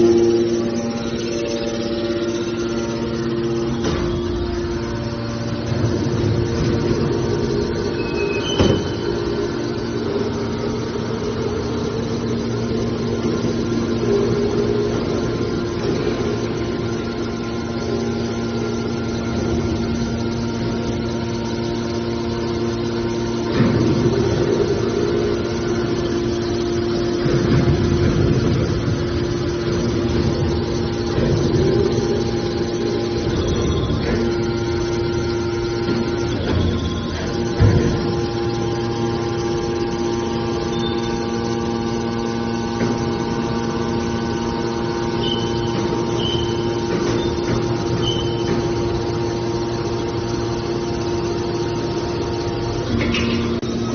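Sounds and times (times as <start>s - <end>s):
hydraulic baler humming: 0.0s - 53.9s.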